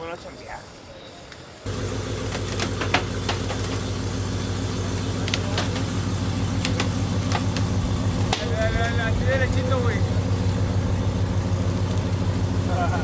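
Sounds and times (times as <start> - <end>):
car engine idling: 1.6 - 13.0.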